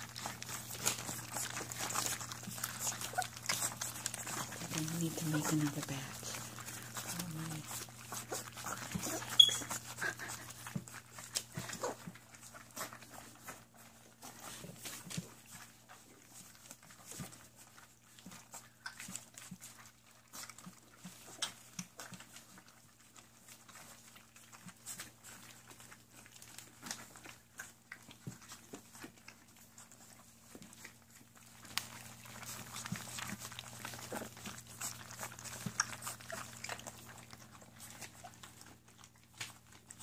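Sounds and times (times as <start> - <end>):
puppies lapping and smacking: 0.0 - 40.0.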